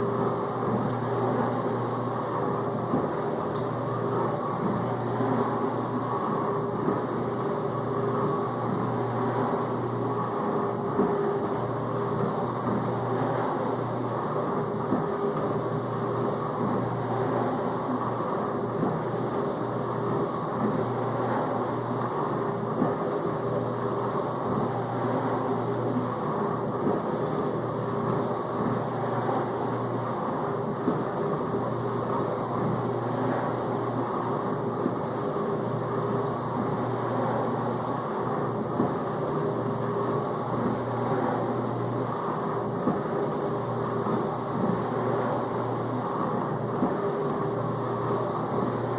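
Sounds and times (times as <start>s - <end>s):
dishwasher pump motor humming: 0.0s - 48.9s.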